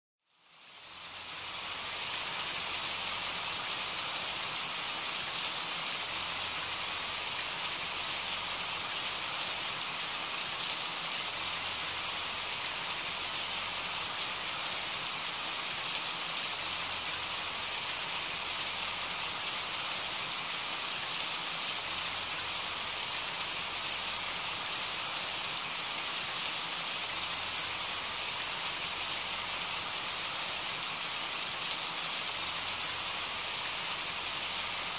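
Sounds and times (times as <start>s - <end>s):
steady rain falling: 0.3s - 34.9s.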